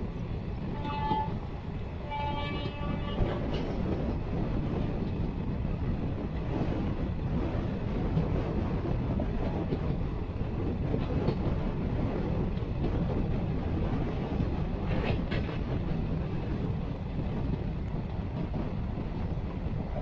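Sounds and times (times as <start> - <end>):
train wheels rumbling on rail: 0.0 - 20.0
faint track clacks: 2.4 - 20.0.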